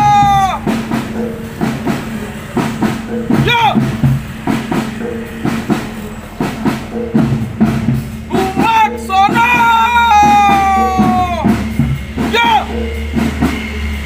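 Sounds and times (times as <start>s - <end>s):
repeating melodic figure: 0.0s - 13.2s
marching drum beats: 0.0s - 14.0s.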